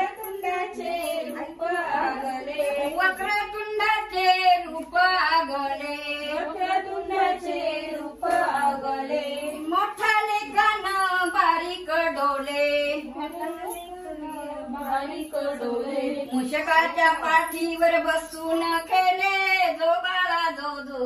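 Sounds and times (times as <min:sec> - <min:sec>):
women singing a cradle song: 0:00.0 - 0:21.0.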